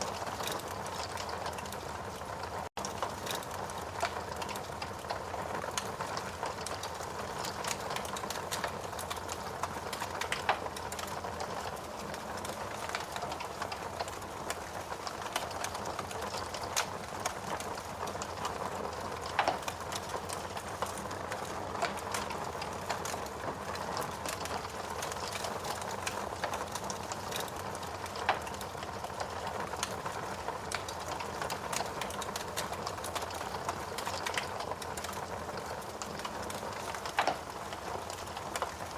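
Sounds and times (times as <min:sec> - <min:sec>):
fire crackling and popping: 0:00.0 - 0:38.9
rain falling: 0:00.0 - 0:38.9.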